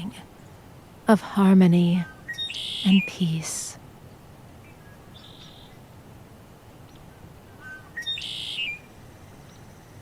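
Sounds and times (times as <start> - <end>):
faint background hiss: 0.0 - 10.0
songbirds calling: 0.0 - 10.0.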